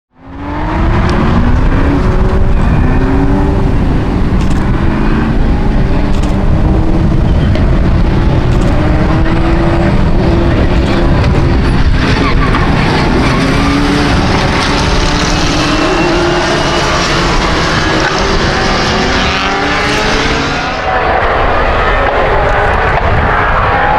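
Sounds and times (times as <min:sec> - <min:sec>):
racing car engines revving: 0:00.1 - 0:23.9.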